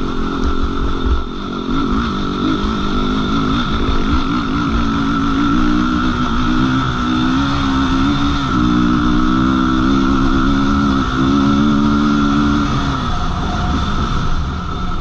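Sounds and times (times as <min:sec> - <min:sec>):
quad engine running under throttle: 0:00.0 - 0:15.0.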